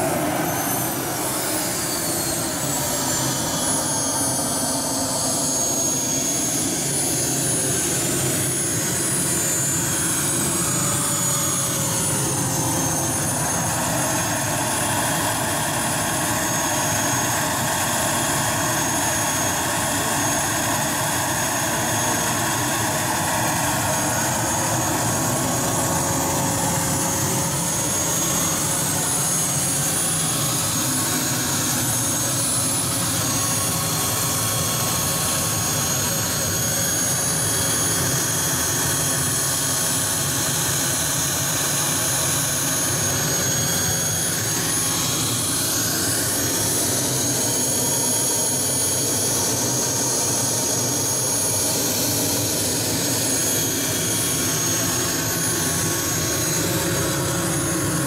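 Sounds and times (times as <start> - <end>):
model jet turbine whining: 0.0 - 58.0.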